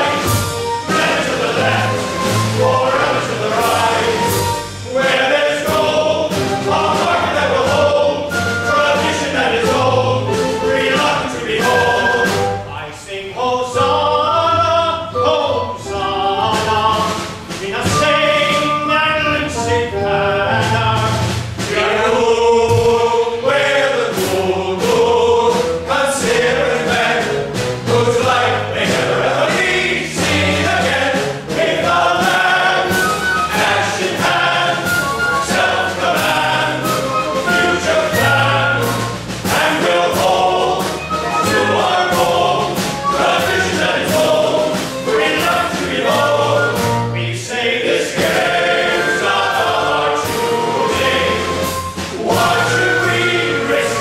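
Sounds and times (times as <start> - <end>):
male chorus singing: 0.0 - 54.0
musical accompaniment: 0.0 - 54.0.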